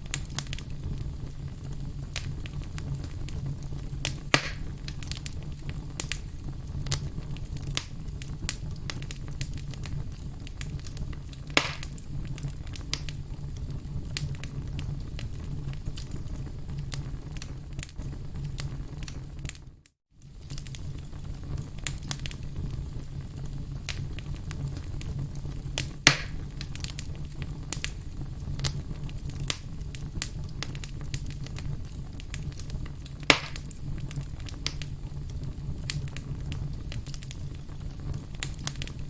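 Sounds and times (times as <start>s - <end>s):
firewood crackling and popping: 0.0s - 39.0s.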